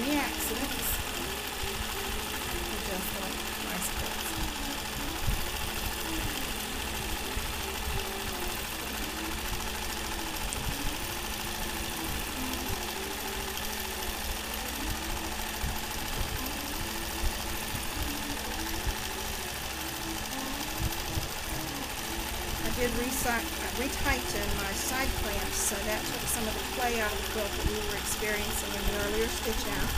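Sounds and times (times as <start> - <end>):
quilting machine motor whine: 0.0 - 29.9.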